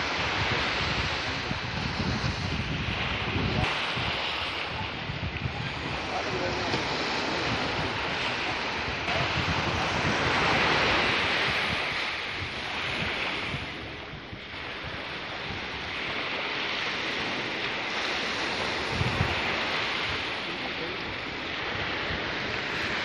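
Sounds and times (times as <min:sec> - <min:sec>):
rushing wind and surf: 0:00.0 - 0:23.0.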